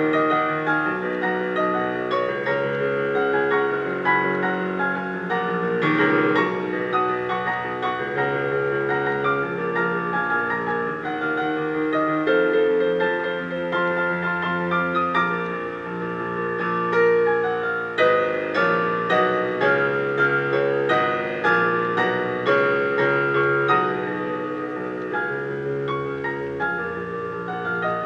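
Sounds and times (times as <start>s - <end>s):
slow solo piano: 0.0s - 28.0s.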